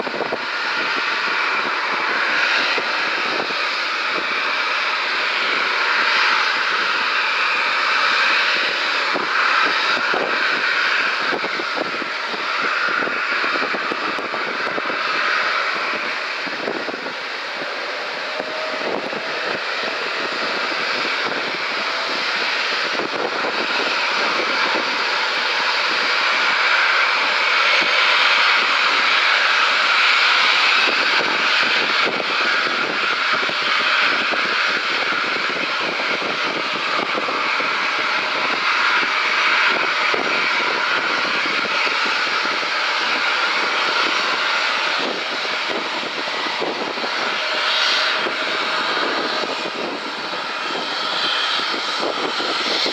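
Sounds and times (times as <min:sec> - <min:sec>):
jet engines at takeoff thrust: 0:00.0 - 0:52.9.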